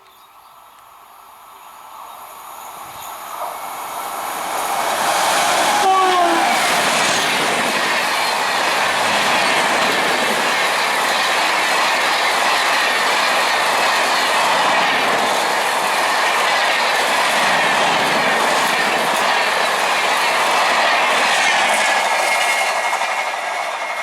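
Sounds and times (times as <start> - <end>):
train wheels clattering on rails: 2.9 - 24.0.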